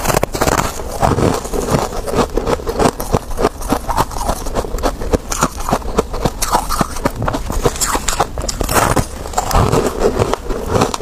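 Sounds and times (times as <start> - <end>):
frost being chewed crunching: 0.0 - 11.0.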